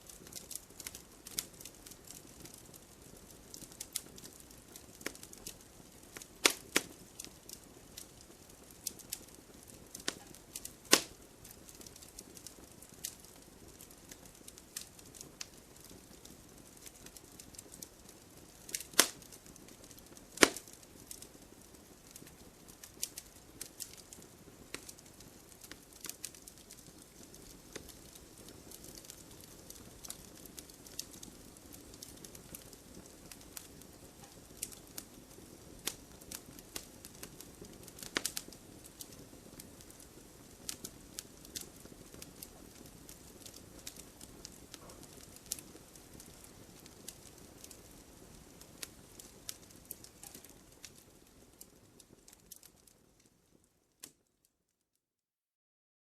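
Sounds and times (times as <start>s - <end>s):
flame rushing: 0.0s - 53.0s
firewood crackling and popping: 0.0s - 54.4s.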